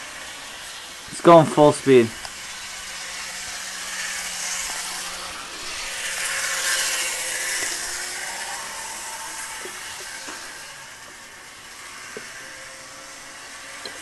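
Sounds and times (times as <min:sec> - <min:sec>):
model train rolling hiss: 0:00.0 - 0:14.0
train motor hum: 0:00.0 - 0:14.0.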